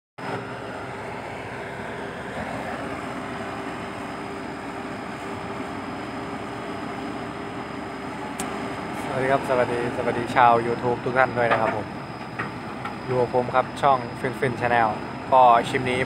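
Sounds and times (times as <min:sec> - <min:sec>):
excavator diesel engine running: 0:00.2 - 0:16.0
steady hum: 0:00.2 - 0:16.0.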